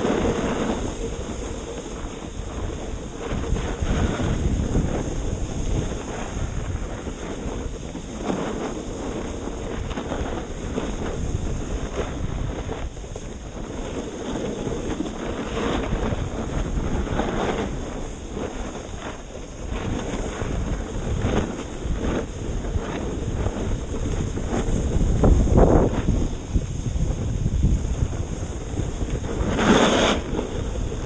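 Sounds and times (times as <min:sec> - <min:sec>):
skis sliding on packed snow: 0:00.0 - 0:31.0
wind rushing over microphone: 0:00.0 - 0:31.0.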